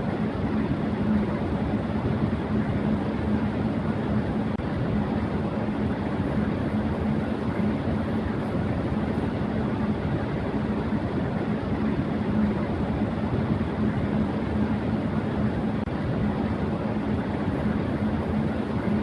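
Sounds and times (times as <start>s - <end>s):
electric fan whooshing: 0.0s - 19.0s
fan motor low hum: 0.0s - 19.0s.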